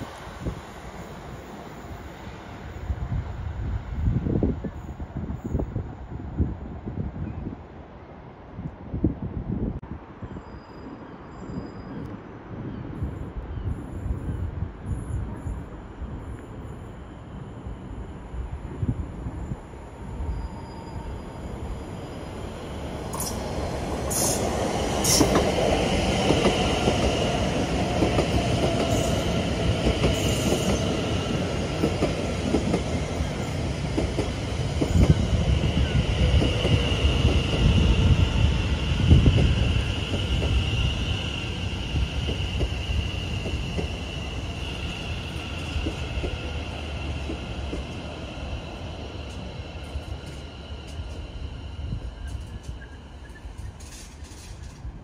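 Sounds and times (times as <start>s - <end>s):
train rumble: 10.8s - 55.0s.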